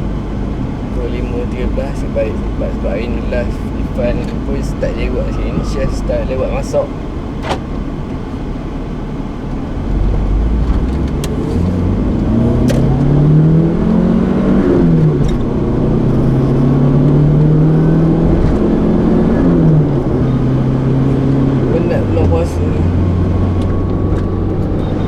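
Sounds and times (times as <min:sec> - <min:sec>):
car engine accelerating: 0:00.0 - 0:25.0
road rumble: 0:00.0 - 0:25.0.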